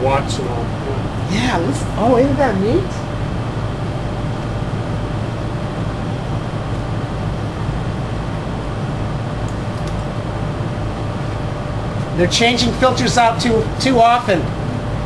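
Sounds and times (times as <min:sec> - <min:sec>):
air handler blower rushing air: 0:00.0 - 0:15.0
faint steady hum: 0:00.0 - 0:15.0.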